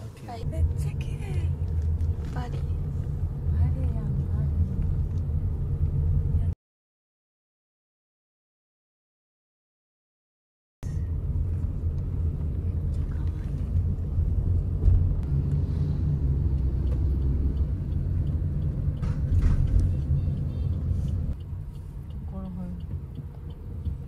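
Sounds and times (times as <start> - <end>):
road and engine noise in car: 0.0 - 6.6, 10.8 - 24.0.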